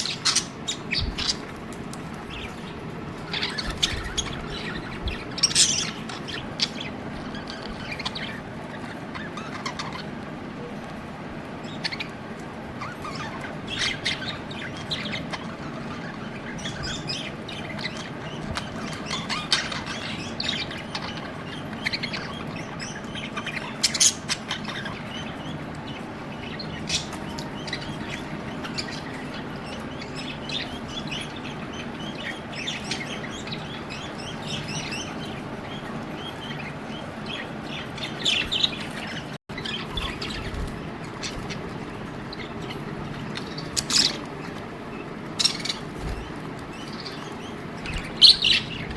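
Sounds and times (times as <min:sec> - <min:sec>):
budgerigars chirping: 0:00.0 - 0:10.7, 0:11.5 - 0:48.9
steady low hum: 0:00.0 - 0:48.9.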